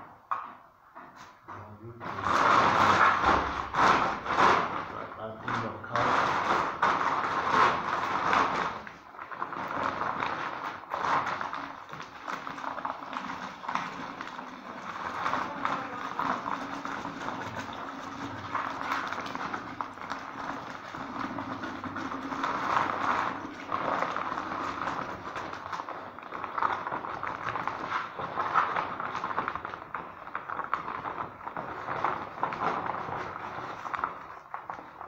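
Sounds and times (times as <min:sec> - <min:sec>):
plastic sack rustling: 0:01.2 - 0:35.0
powder pouring into water: 0:02.0 - 0:35.0.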